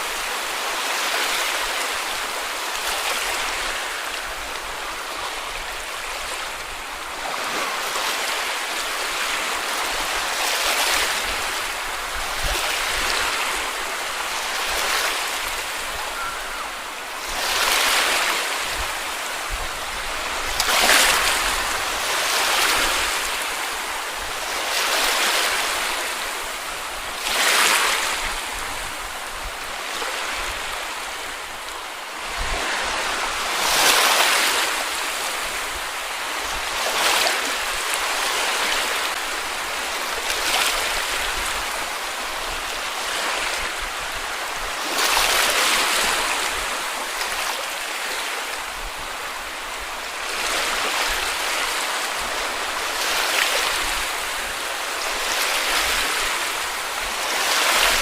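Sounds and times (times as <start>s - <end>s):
small waves washing on beach: 0.0s - 58.0s.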